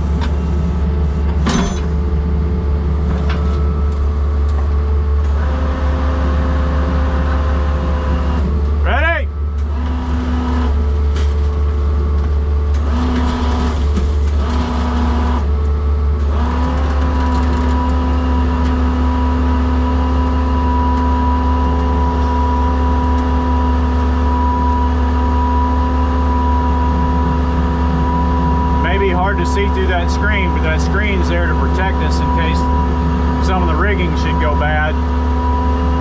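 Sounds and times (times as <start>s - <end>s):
hydraulic winch whine: 0.0s - 11.4s, 12.5s - 36.0s
skid steer engine running: 0.0s - 36.0s.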